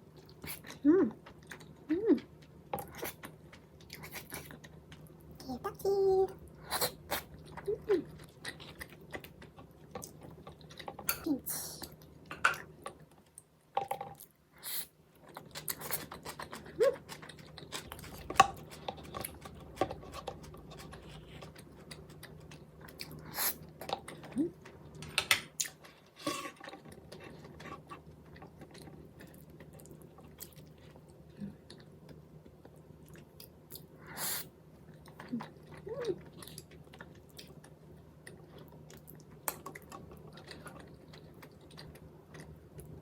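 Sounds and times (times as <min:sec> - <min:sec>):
chewing and wet mouth sounds: 0:00.1 - 0:05.4, 0:06.4 - 0:13.5, 0:14.1 - 0:43.0.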